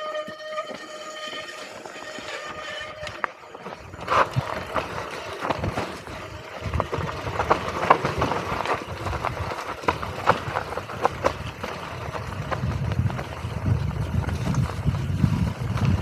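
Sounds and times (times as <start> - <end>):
bike chain and frame clacking: 0.0 - 16.0
bike tyres rumbling on dirt: 0.0 - 16.0.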